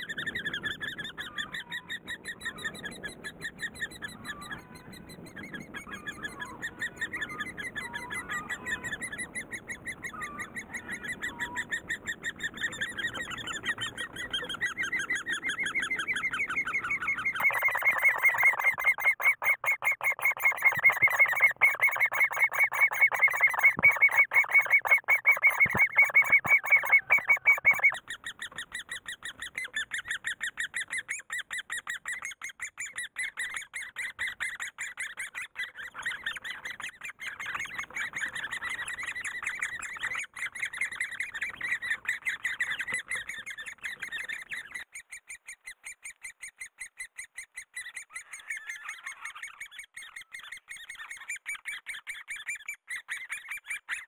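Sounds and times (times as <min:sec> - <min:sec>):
nestlings begging chatter: 0:00.0 - 0:54.0.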